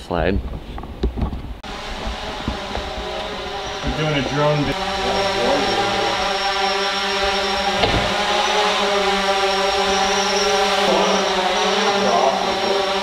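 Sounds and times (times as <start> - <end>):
drone propeller hum: 0.4 - 13.0.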